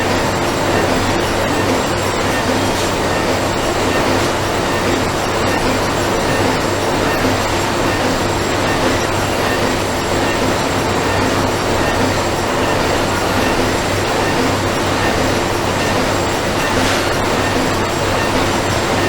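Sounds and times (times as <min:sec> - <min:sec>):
machinery running: 0:00.0 - 0:19.0.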